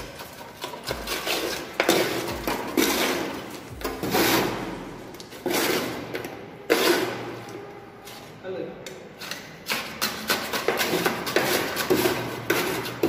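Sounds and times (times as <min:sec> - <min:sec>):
concrete scraping on steel tray: 0:00.0 - 0:07.3, 0:09.2 - 0:13.0.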